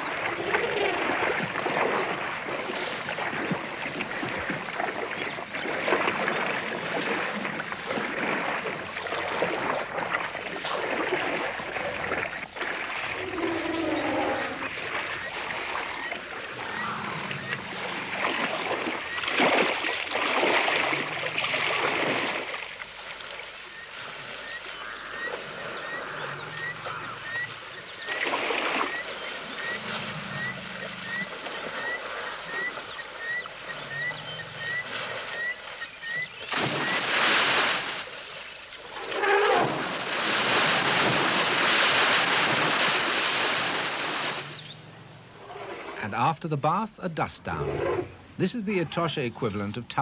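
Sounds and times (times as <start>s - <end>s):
elephants splashing in water: 0.0s - 46.1s.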